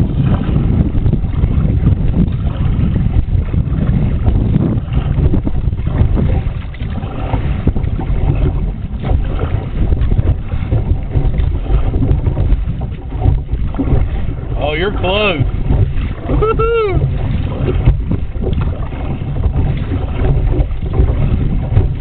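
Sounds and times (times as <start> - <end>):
water splashing and sloshing: 0.0 - 22.0
wind buffeting microphone: 0.0 - 22.0.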